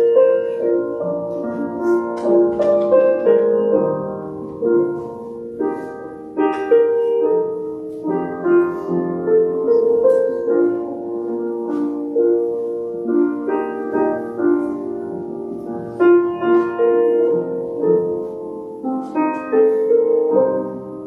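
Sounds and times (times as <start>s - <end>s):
slow instrumental keyboard music: 0.0s - 21.0s.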